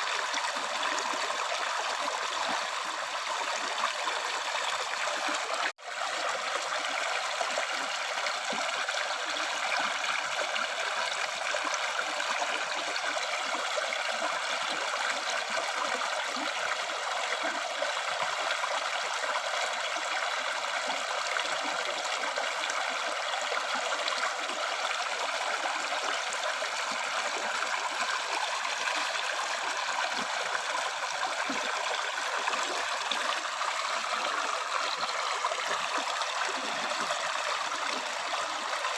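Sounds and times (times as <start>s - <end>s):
river stream flowing: 0.0s - 38.9s.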